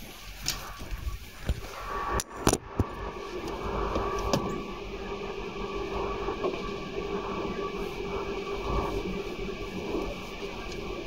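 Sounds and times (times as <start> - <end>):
low train running rumble: 0.0 - 11.0
train traction motor hum: 0.0 - 11.0.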